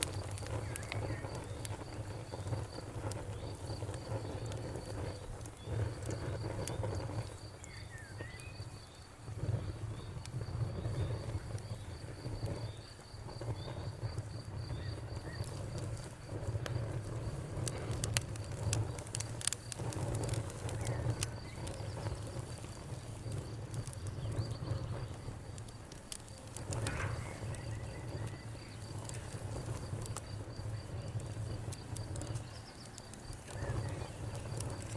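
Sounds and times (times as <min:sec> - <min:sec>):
cricket chirping: 0:00.0 - 0:34.9
wood fire crackling: 0:00.0 - 0:34.9.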